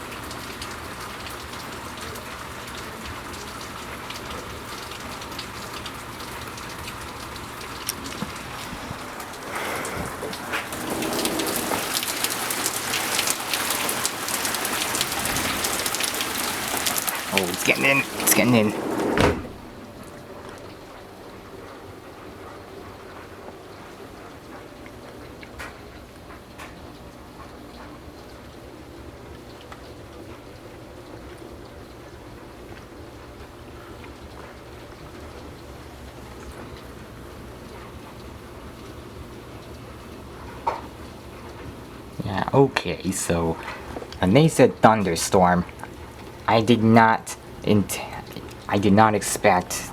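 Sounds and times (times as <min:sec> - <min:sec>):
torrential rain pouring: 0:00.0 - 0:49.9
water drips and splashes: 0:00.0 - 0:49.9.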